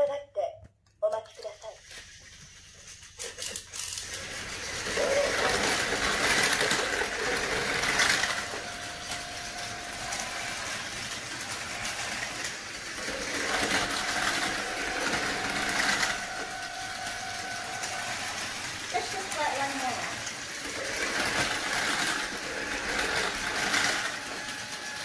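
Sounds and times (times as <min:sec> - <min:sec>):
toy train motors whirring: 0:01.1 - 0:25.0
toy train wheels clattering: 0:01.2 - 0:25.0.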